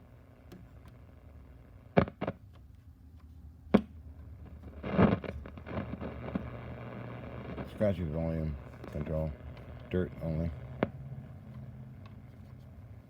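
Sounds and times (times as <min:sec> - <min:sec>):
radio speaker humming: 0:00.0 - 0:02.4, 0:03.7 - 0:13.0
crackling volume control: 0:00.0 - 0:13.0.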